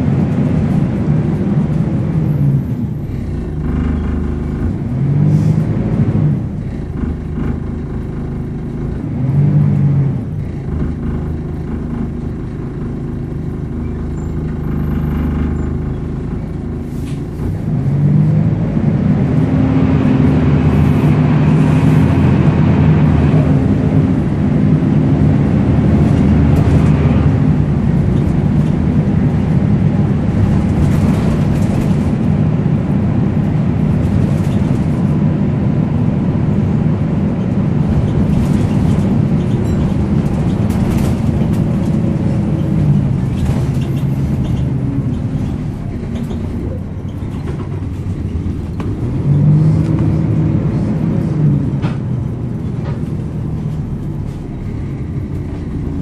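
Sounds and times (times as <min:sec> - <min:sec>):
bus engine running under load: 0:00.0 - 0:56.0.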